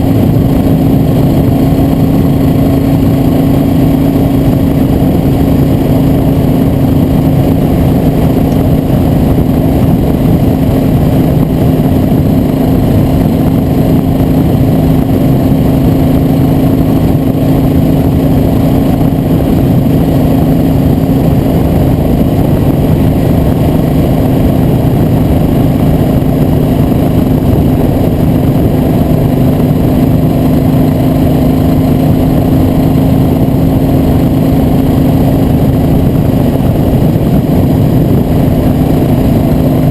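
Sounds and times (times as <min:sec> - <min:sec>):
road rushing noise: 0:00.0 - 0:39.9
vehicle engine humming: 0:00.0 - 0:39.9.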